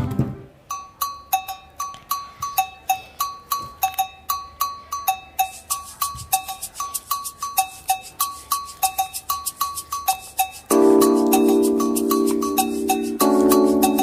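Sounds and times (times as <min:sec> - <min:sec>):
bell-like percussion pattern: 0:00.6 - 0:14.0.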